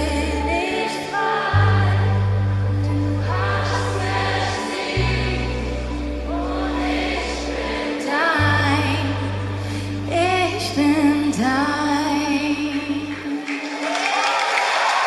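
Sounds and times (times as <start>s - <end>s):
woman singing: 0.0s - 5.5s, 6.3s - 13.6s
low bass notes: 0.0s - 13.2s
backing voices singing: 0.0s - 13.4s.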